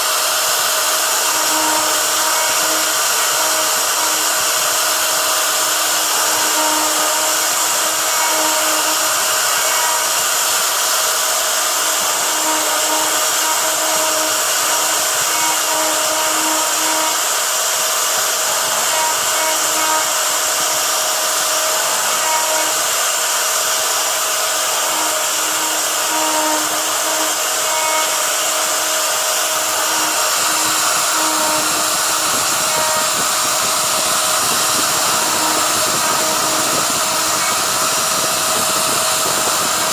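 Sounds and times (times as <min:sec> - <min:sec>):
router spindle motor whirring: 0:00.0 - 0:39.9
stepper motor tones: 0:00.0 - 0:39.9.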